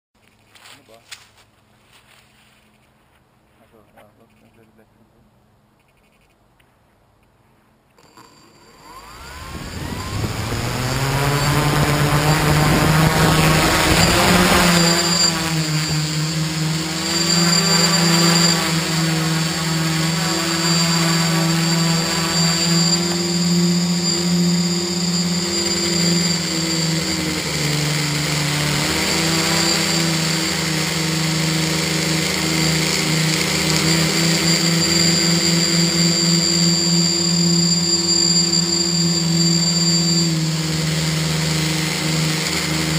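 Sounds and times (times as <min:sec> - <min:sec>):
electric motors and propellers buzzing: 0:08.0 - 0:42.9
thin high whine: 0:08.0 - 0:42.9.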